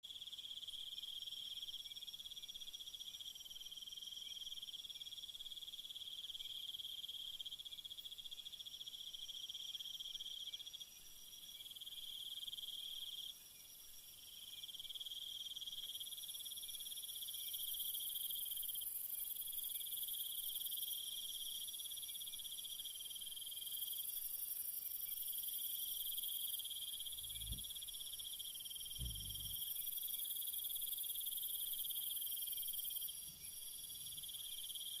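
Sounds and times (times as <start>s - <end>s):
insects chirring: 5.6s - 35.0s.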